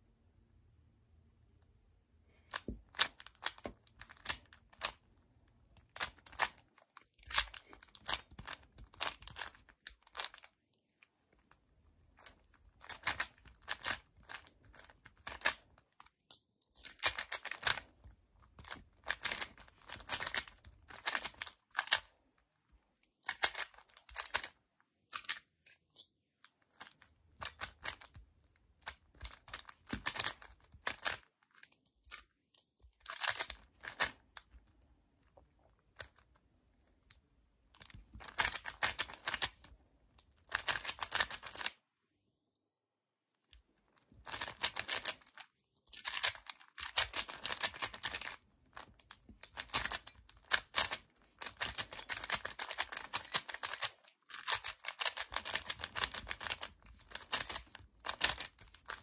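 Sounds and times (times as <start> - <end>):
puzzle cube clicking: 2.4 - 10.5, 12.1 - 22.2, 23.2 - 32.3, 33.0 - 34.5, 37.0 - 41.8, 44.2 - 59.0.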